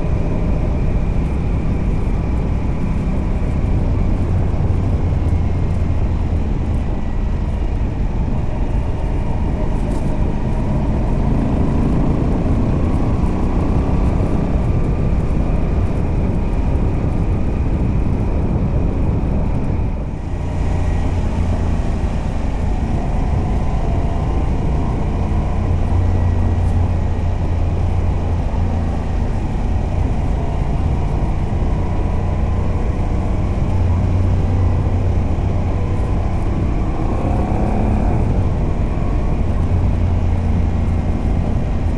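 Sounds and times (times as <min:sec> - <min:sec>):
motorcycle engine on the road: 0:00.0 - 0:41.9.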